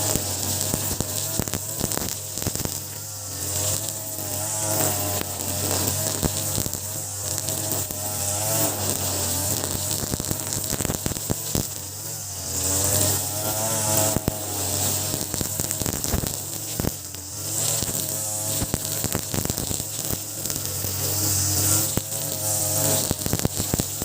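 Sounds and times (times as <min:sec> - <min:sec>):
brush cutter engine running: 0:00.0 - 0:24.0.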